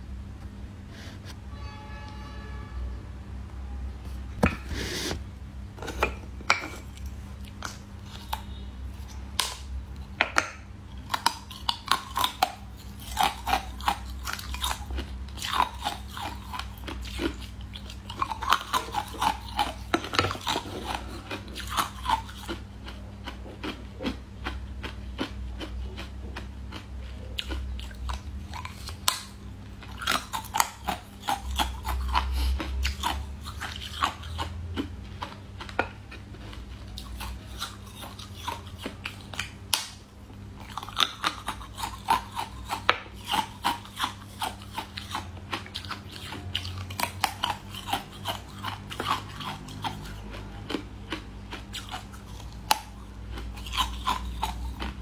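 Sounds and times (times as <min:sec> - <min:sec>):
chewing crunchy candy: 0:06.8 - 0:10.2, 0:10.9 - 0:55.0.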